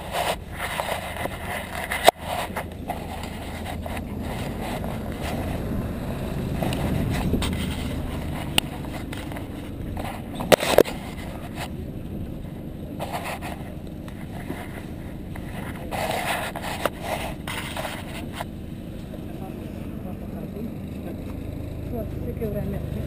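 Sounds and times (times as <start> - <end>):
minibus engine rumbling past: 0.0 - 23.0.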